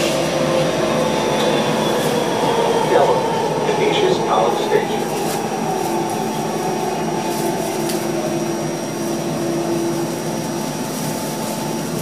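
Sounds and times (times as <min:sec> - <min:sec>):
light-rail car hum and rumble: 0:00.0 - 0:12.0.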